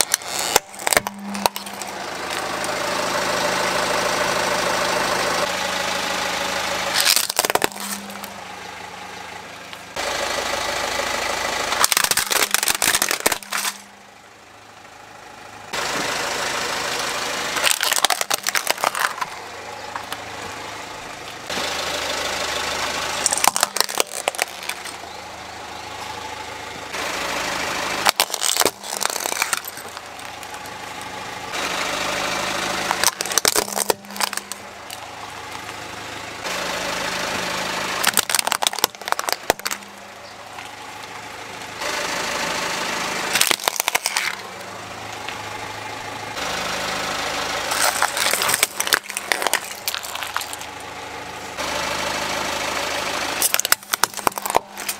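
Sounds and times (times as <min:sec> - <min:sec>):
car tyre crushing plastic toys: 0:00.0 - 0:14.0, 0:17.4 - 0:21.9, 0:22.5 - 0:42.0, 0:43.1 - 0:46.7, 0:47.6 - 0:54.9
car engine hum: 0:00.0 - 0:54.9.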